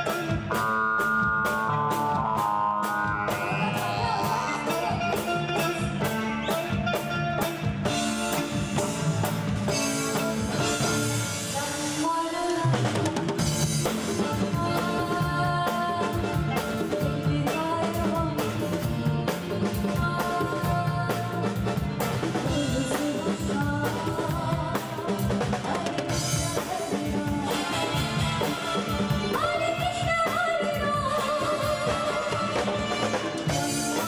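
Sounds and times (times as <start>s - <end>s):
drum kit beat with cymbals: 0.0s - 34.0s
live band playing: 0.0s - 34.0s.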